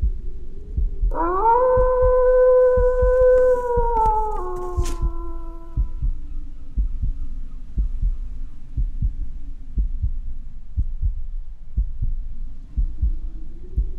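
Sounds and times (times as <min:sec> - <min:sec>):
heartbeat double thump: 0:00.0 - 0:13.9
low steady drone: 0:00.0 - 0:13.9.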